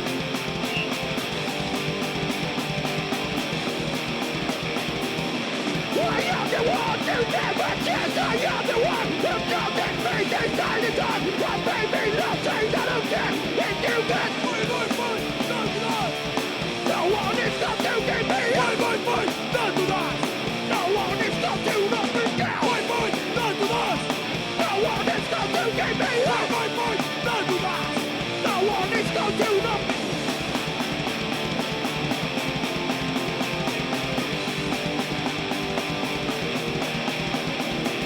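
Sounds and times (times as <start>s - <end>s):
distorted electric guitars: 0.0s - 38.0s
rapid drum beat: 0.0s - 38.0s.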